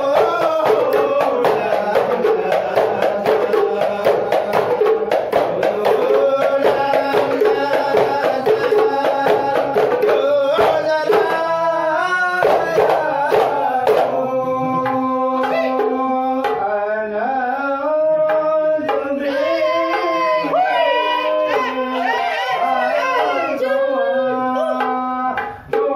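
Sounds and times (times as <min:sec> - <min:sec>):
group singing together: 0:00.0 - 0:25.9
hand-beaten frame drums: 0:00.0 - 0:25.9.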